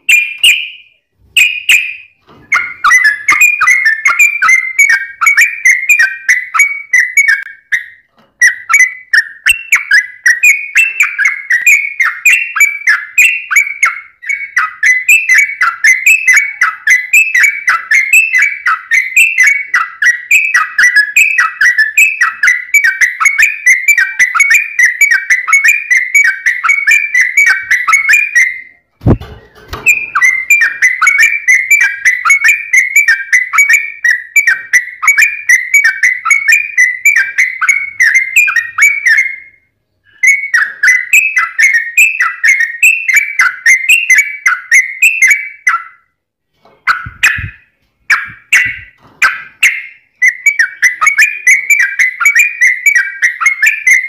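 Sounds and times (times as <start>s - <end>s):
bird singing whistled phrases: 0.0s - 46.1s, 46.9s - 54.0s.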